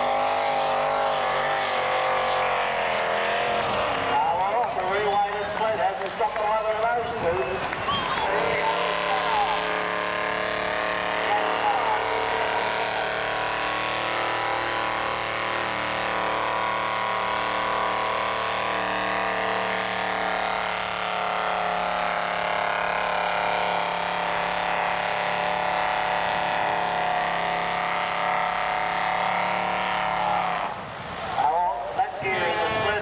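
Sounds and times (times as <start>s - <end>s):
pickup truck engine at high revs: 0.0s - 33.0s.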